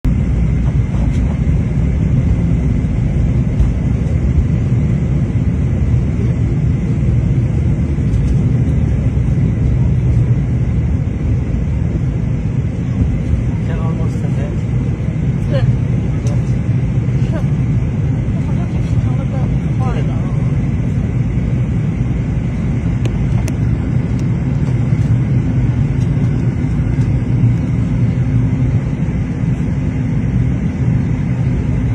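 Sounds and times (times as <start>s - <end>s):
plane engines rumbling in cabin: 0.0s - 31.9s.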